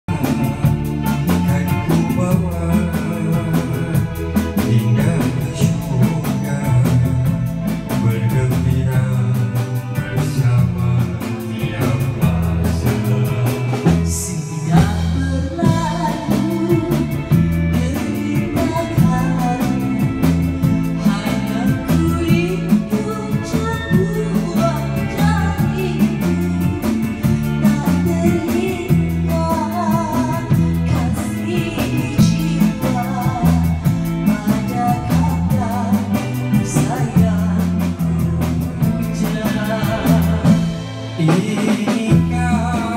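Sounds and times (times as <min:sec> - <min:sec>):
person singing through loudspeaker: 0:00.0 - 0:42.9
repeating bass line: 0:00.0 - 0:42.9
steady drum beat: 0:00.0 - 0:42.9.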